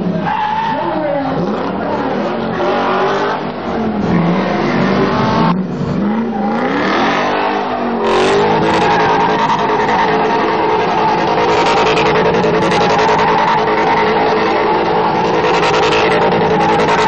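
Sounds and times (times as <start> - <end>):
car engine revving: 0.0 - 17.0
tyre screech: 0.1 - 17.0.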